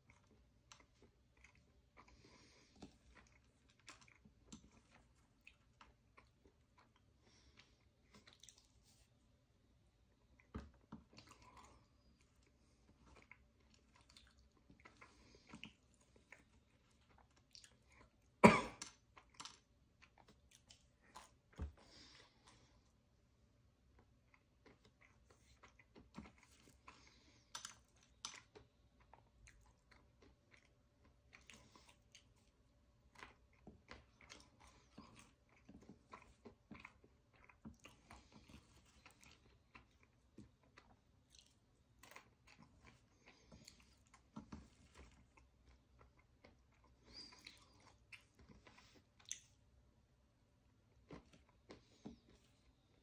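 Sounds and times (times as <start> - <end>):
chewing and crunching nuts: 0.0 - 53.0.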